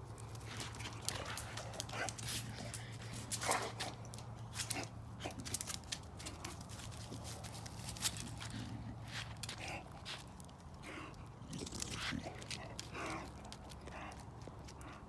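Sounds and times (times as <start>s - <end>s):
dog paws scuffling and clicking: 0.0s - 15.0s.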